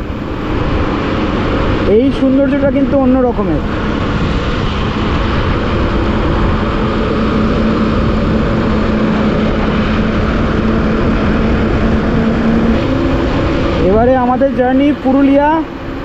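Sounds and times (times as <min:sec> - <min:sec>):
motorcycle engine drone: 0:00.0 - 0:16.0
wind rush on microphone: 0:00.0 - 0:16.0.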